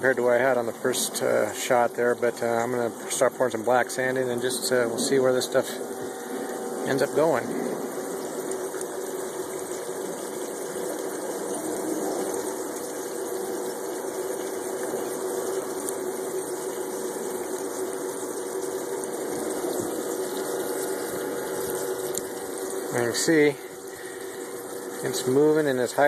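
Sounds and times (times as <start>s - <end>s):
water flowing down a sluice: 0.0s - 26.0s
water pump humming: 0.0s - 26.0s.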